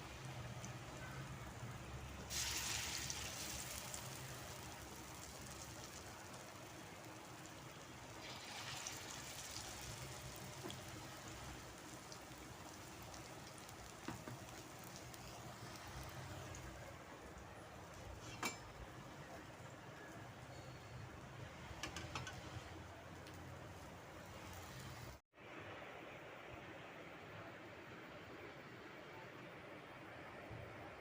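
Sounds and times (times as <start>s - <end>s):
snack frying in hot oil: 0.0s - 25.2s.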